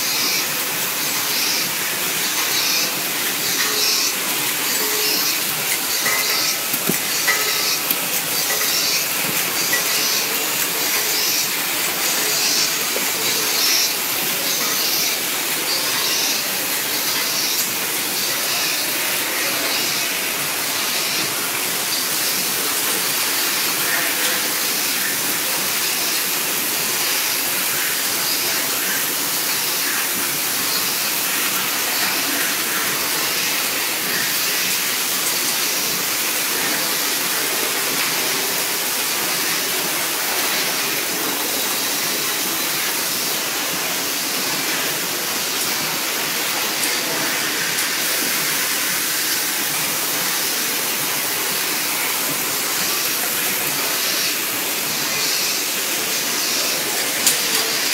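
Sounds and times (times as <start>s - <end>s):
hissing machine noise: 0.0s - 57.9s.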